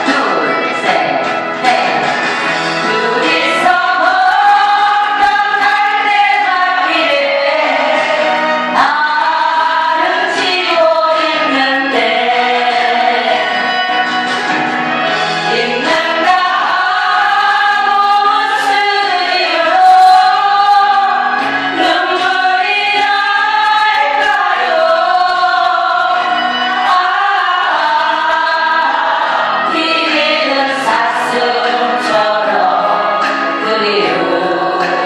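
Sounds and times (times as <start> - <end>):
instrumental backing: 0.0 - 35.0
woman singing a ballad: 2.9 - 13.5, 15.5 - 35.0.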